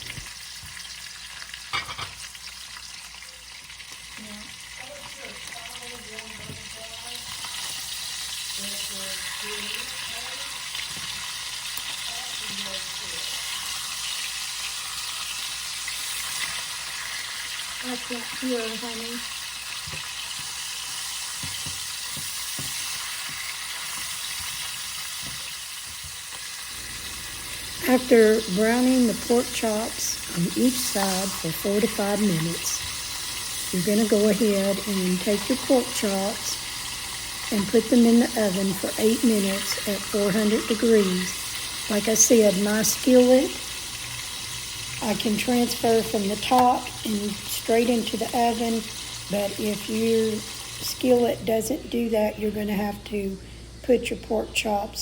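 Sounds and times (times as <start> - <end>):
meat sizzling in a skillet: 0.0 - 52.8.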